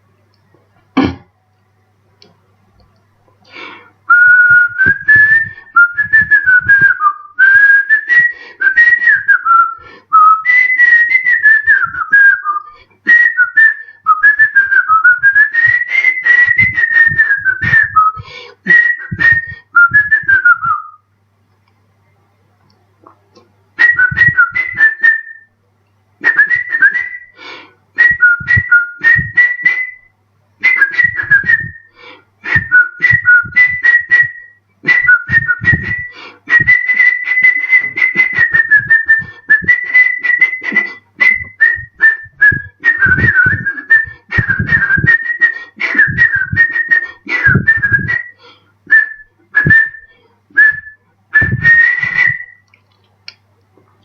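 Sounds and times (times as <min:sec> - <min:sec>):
man whistling a melody: 0:04.1 - 0:21.1, 0:23.8 - 0:25.5, 0:26.2 - 0:52.7.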